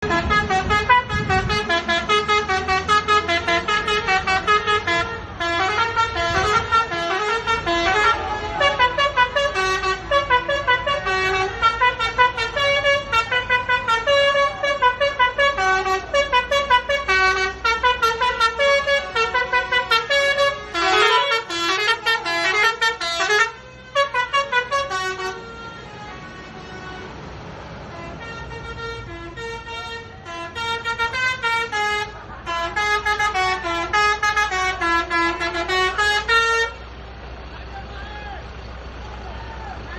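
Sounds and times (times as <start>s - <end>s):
musical bus horn tune: 0.0s - 36.9s.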